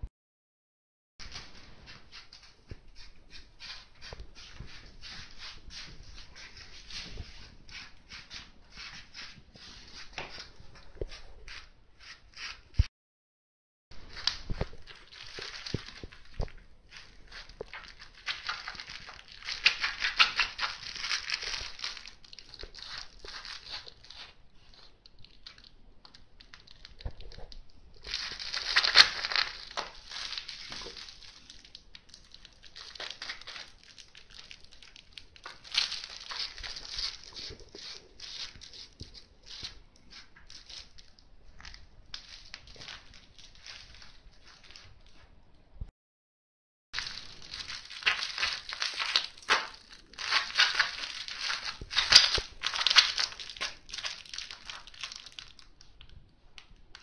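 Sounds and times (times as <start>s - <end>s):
plush toy crinkling and rustling: 1.2s - 12.6s, 14.0s - 45.4s, 47.0s - 57.0s.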